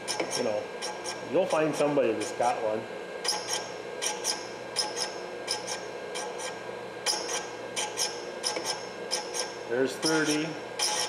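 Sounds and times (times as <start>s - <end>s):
high-pitched grinding rasp: 0.0s - 2.5s, 3.2s - 11.0s
grinding machine humming: 0.0s - 11.0s.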